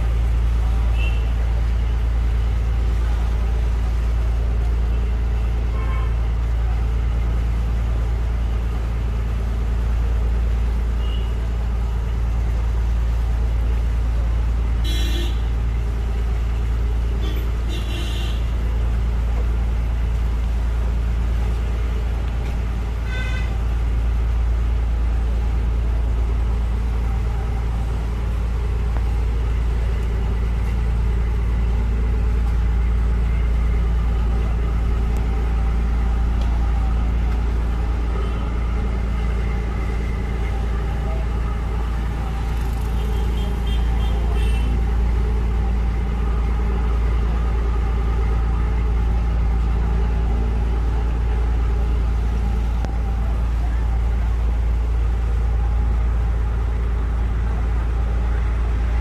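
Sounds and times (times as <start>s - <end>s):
engine low drone: 0.0s - 59.0s.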